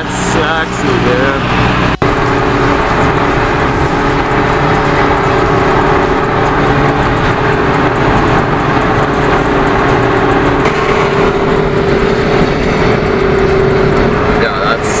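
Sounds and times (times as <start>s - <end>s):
car engine drone: 0.0s - 15.0s
low hum: 0.0s - 15.0s
road and wind noise: 0.0s - 15.0s.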